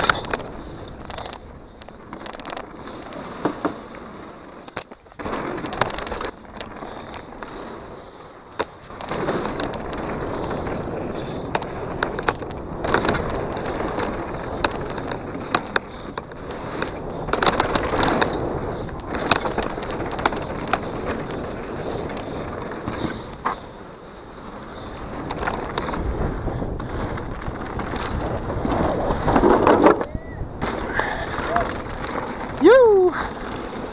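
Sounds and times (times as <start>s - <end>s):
bike rattling over bumps: 0.0s - 33.9s
bike tyres on gravel trail: 0.0s - 33.9s.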